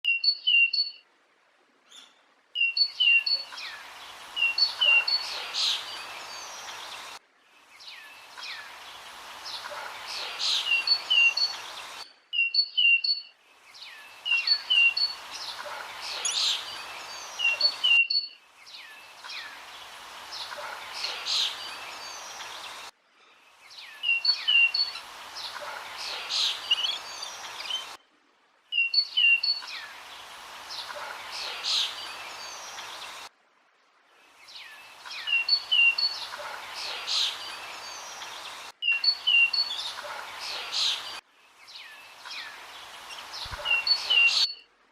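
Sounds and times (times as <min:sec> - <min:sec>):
steady background hiss: 0:01.0 - 0:44.9
birds chirping: 0:01.9 - 0:28.0, 0:28.7 - 0:33.3, 0:34.3 - 0:44.6.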